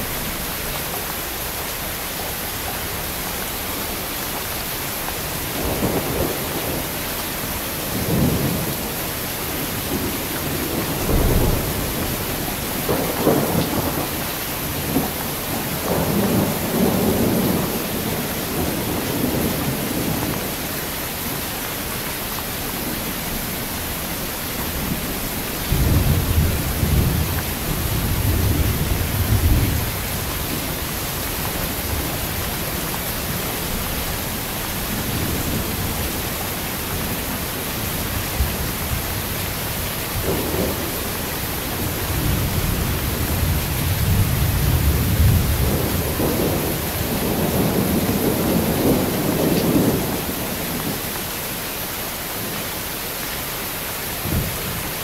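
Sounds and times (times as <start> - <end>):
heavy rain: 0.0 - 55.0
thunder rumbling: 5.2 - 21.1, 21.8 - 51.2, 54.2 - 55.0.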